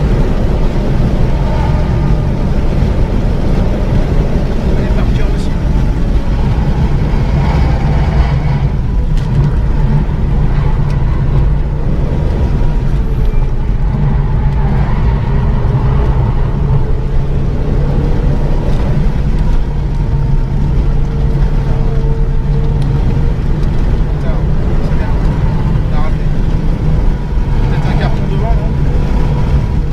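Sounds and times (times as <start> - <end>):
car engine under load: 0.0 - 29.9
road and tyre noise: 0.0 - 29.9.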